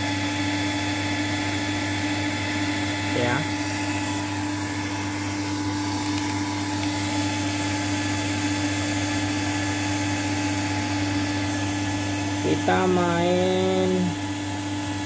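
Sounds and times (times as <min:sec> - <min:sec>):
cooling fan whirring: 0:00.0 - 0:15.0.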